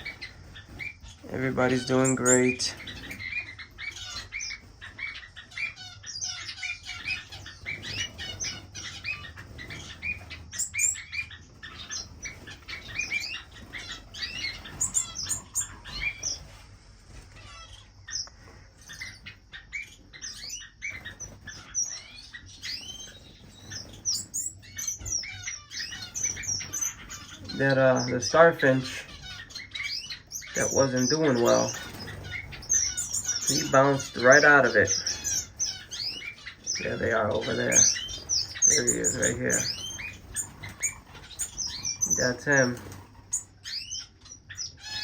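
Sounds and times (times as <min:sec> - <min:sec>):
wings fluttering: 0:00.0 - 0:44.0
finches chirping and trilling: 0:00.0 - 0:45.0.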